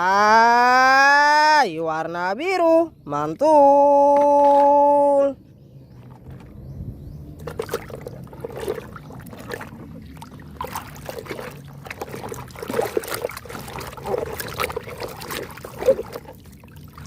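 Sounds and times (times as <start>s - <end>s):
water trickling and splashing: 3.1s - 17.0s.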